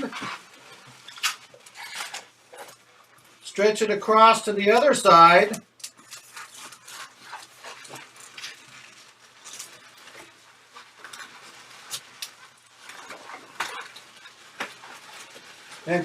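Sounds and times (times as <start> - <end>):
balloons squeaking and rubbing: 0.0 - 16.0.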